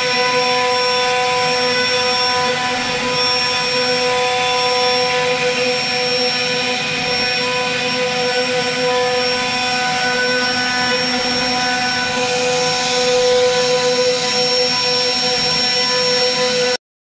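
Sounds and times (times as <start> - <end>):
router spindle whine: 0.0 - 16.8.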